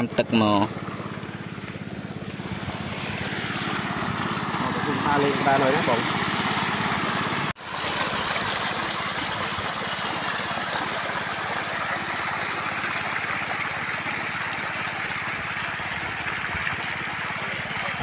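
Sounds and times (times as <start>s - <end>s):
water pump engine running: 0.0s - 18.0s
water rushing and gurgling: 0.0s - 18.0s.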